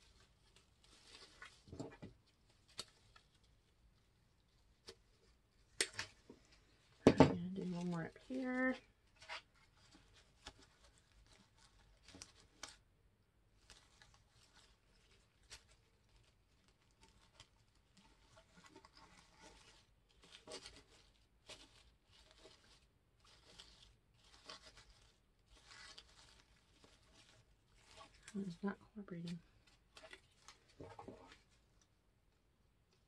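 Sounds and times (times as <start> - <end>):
mesh rustling and crinkling: 0.0 - 33.0.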